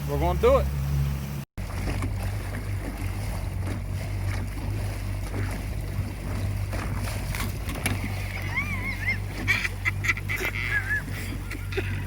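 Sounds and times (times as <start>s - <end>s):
boat motor humming: 0.0s - 12.0s
water noise: 0.0s - 12.0s
wind: 0.0s - 12.0s.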